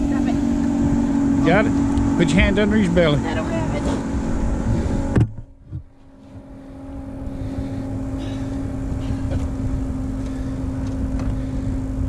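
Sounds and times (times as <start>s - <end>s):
engine drone: 0.0s - 12.0s
low rumble: 0.0s - 12.0s.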